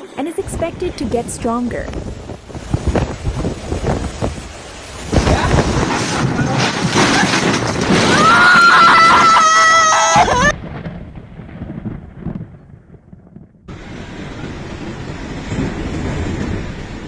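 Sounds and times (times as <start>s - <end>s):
driving rain: 0.0s - 12.2s, 13.7s - 17.0s
strong wind buffeting microphone: 0.0s - 17.0s.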